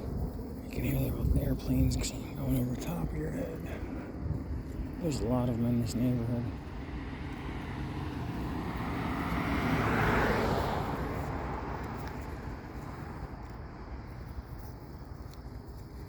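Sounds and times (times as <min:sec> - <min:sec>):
airplane passing overhead: 0:00.0 - 0:16.0.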